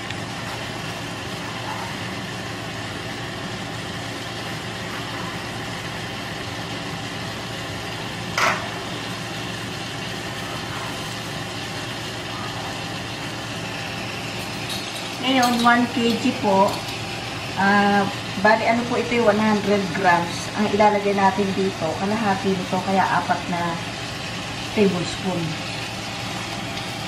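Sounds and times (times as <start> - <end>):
machine-like hum: 0.0 - 27.0
vegetables sizzling in a wok: 0.0 - 27.0.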